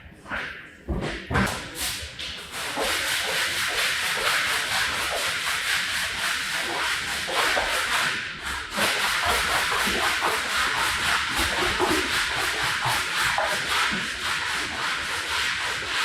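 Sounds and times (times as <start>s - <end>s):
rhythmic rubbing on rug: 1.1s - 16.0s.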